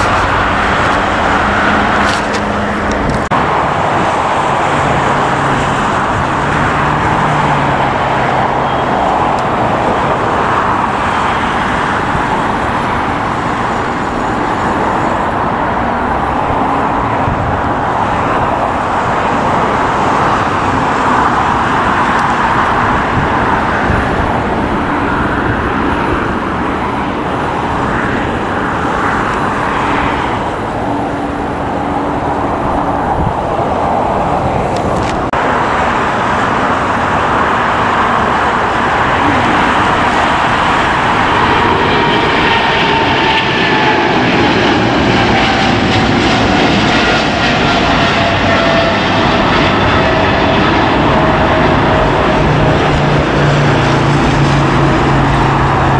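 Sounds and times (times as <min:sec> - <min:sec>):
jet aircraft climbing with whine: 0:00.0 - 0:55.9
jet aircraft taxiing: 0:00.0 - 0:55.9.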